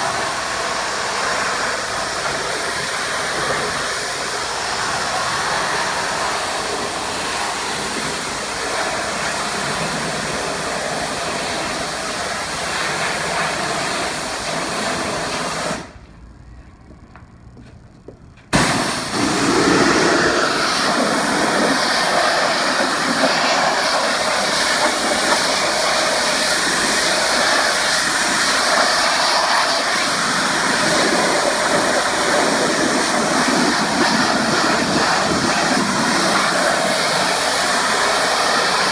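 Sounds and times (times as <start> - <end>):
pressure washer spraying: 0.0 - 16.0, 18.5 - 38.9.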